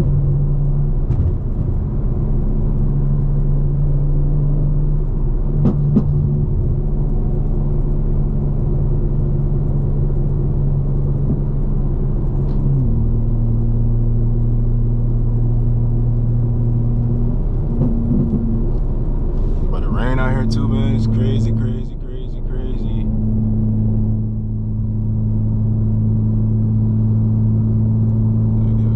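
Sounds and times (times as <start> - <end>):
car engine droning: 0.0 - 28.9.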